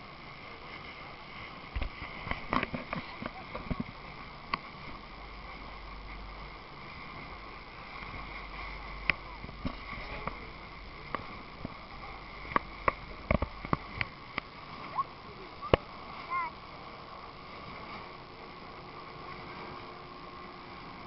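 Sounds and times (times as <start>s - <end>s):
steady hum: 0.0s - 21.0s
water slapping boat hull: 0.0s - 21.0s.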